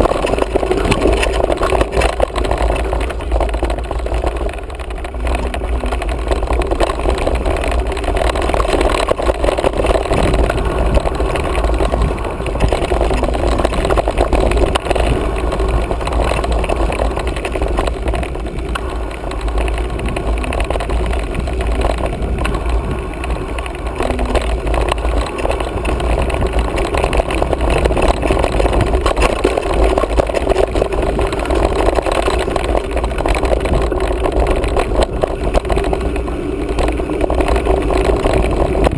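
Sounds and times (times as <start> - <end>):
bike rattling over bumps: 0.0 - 38.9
tyres on dirt trail: 0.0 - 38.9
wind buffeting microphone: 0.0 - 38.9.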